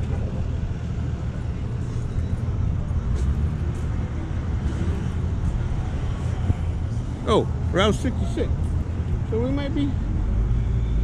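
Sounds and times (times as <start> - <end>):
light road traffic: 0.0 - 11.0
vehicle engines rumbling: 0.0 - 11.0.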